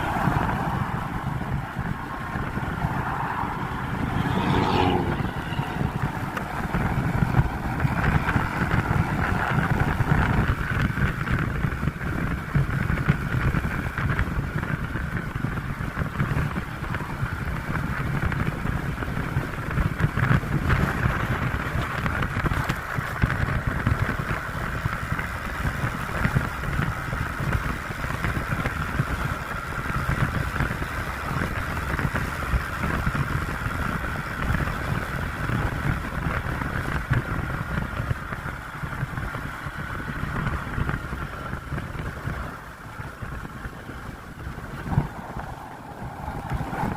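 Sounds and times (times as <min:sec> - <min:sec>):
motorcycle engine rumbling: 0:00.0 - 0:46.9.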